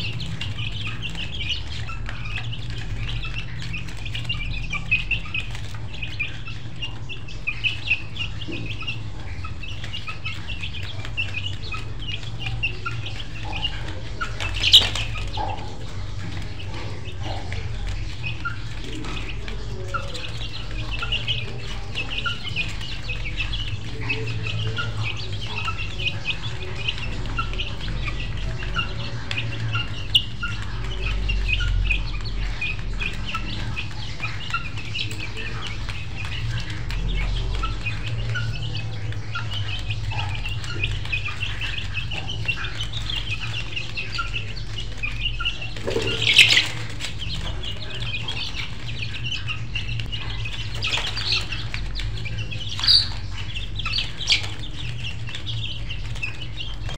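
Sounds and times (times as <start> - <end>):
poultry chirping: 0.0 - 56.9
poultry squawk: 0.0 - 56.9.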